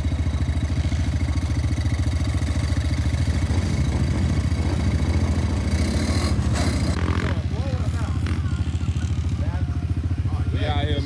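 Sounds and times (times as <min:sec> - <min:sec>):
quad bike engine idling: 0:00.0 - 0:11.0.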